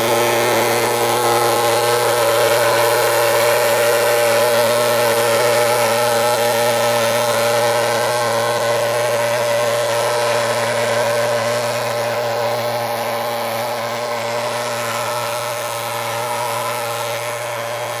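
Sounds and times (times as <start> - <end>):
fogging machine engine drone: 0.0 - 18.0.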